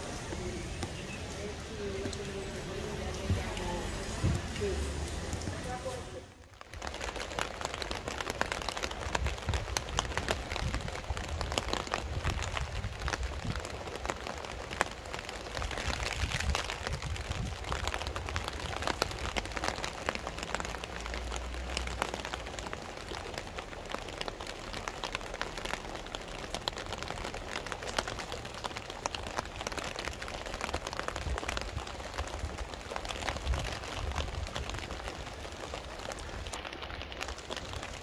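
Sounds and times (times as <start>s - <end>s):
steady rain patter: 0.0s - 38.0s.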